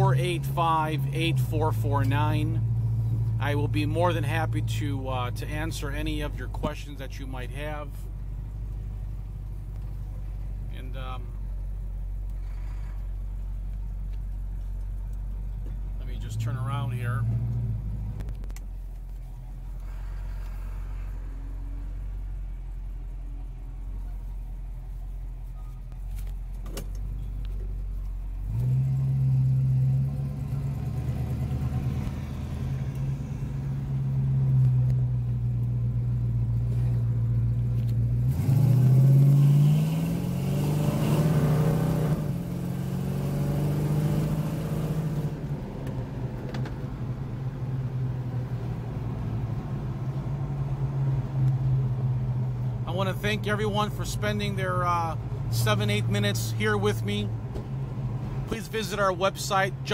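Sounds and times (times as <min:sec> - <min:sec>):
car engine from inside cabin: 0:00.0 - 0:59.9.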